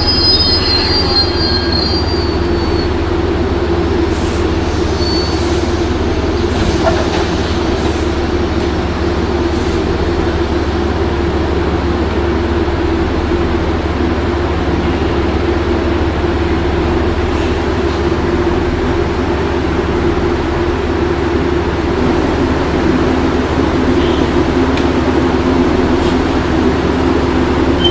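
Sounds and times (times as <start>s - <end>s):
train engine droning: 0.0s - 27.9s.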